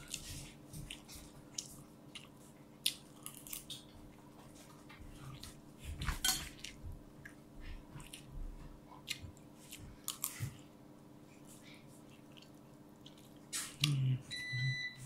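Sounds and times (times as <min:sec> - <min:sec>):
chewing: 0:00.0 - 0:14.2.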